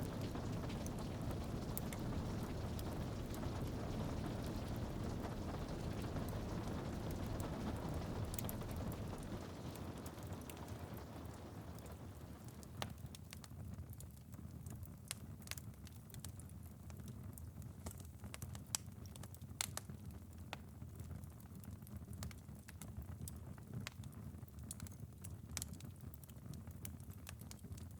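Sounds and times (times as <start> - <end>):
rain pattering on a window: 0.0 - 27.9
wood fire crackling: 0.0 - 27.9.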